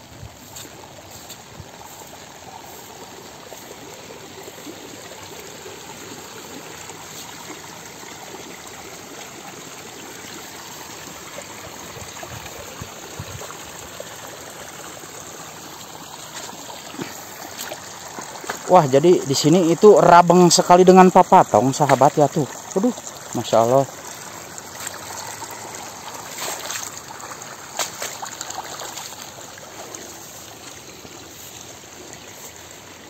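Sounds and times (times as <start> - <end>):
stream running through grass: 0.0 - 33.0.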